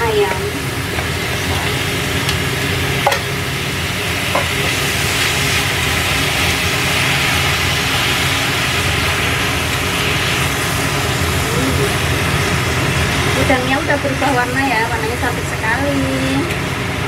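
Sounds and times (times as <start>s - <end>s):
food sizzling in a frying pan: 0.0s - 17.0s
steady low hum: 0.0s - 17.0s.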